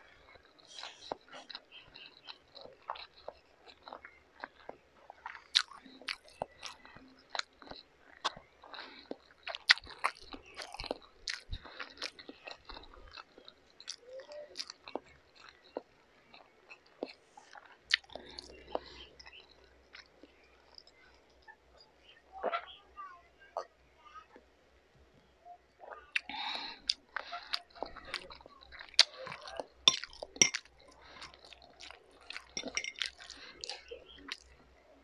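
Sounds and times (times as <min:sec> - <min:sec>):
chewing noodles with mouth clicks: 0:00.0 - 0:21.9, 0:25.8 - 0:35.0.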